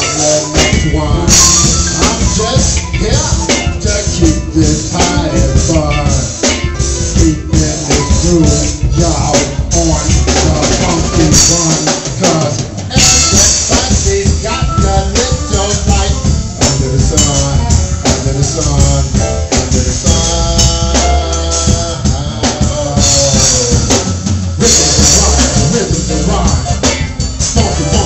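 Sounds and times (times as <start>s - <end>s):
live funk band playing: 0.0s - 28.0s.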